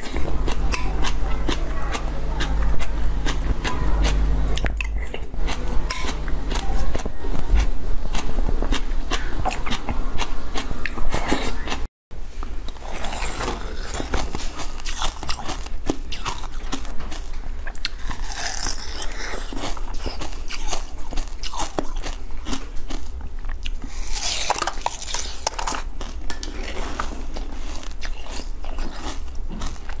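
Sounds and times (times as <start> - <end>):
chewing jelly close up: 0.0 - 30.0.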